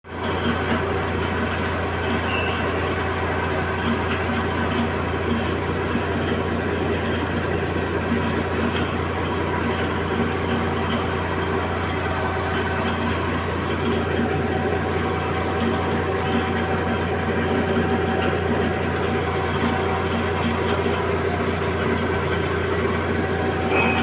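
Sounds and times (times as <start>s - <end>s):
heavy equipment engine idling: 0.0s - 24.0s.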